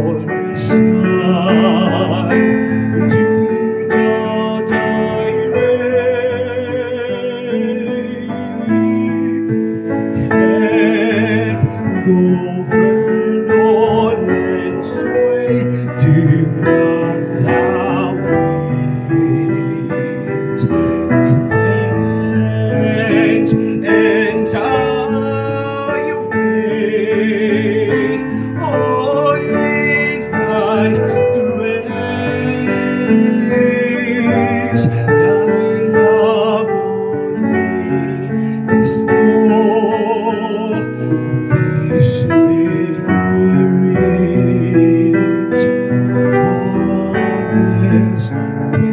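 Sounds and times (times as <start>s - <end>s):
person singing with vibrato: 0.0s - 48.9s
piano accompaniment: 0.0s - 48.9s.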